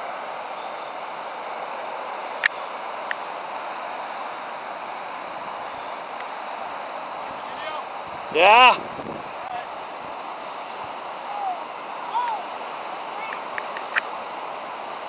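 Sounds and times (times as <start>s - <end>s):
mud and rock rushing down creek: 0.0s - 15.0s.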